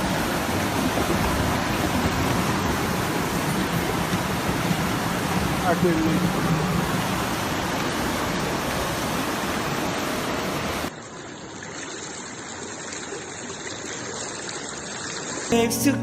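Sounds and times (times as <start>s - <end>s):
rushing floodwater: 0.0s - 15.6s.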